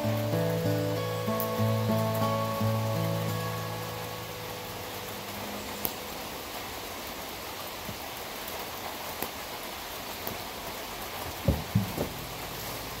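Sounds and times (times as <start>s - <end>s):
rain hissing on a surface: 0.0s - 13.0s.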